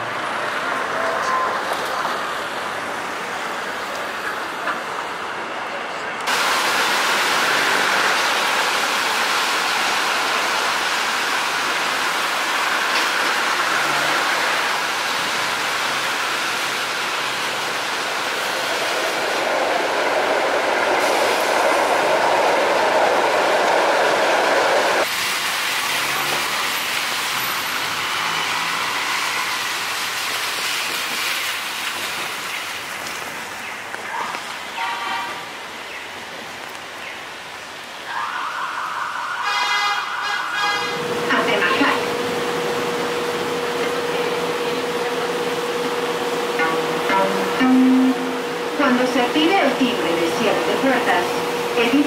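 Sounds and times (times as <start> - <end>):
light rail train passing: 0.0 - 52.0.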